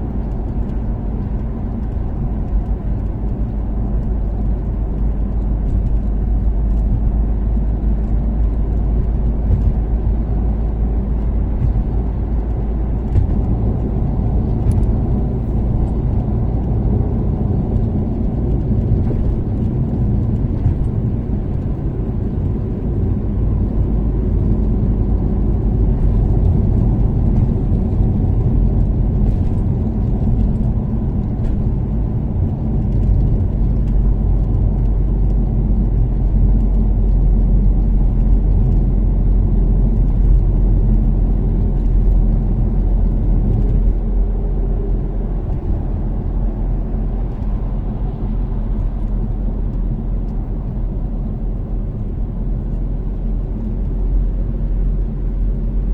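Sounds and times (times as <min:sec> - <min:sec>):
car engine cruising: 0:00.0 - 0:55.9.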